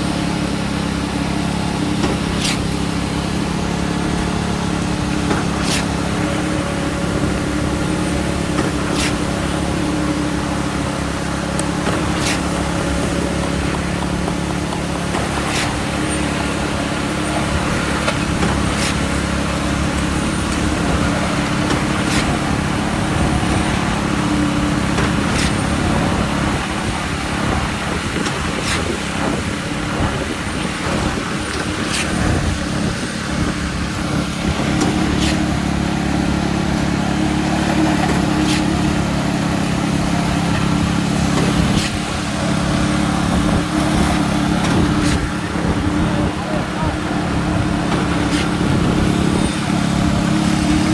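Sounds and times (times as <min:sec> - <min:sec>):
concrete pump diesel engine running: 0:00.0 - 0:50.9
pump knocking: 0:00.0 - 0:50.9.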